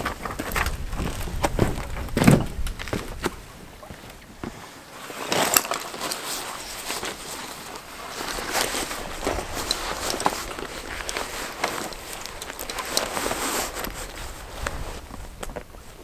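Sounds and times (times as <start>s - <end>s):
camping gear rustling and knocking: 0.0s - 16.0s.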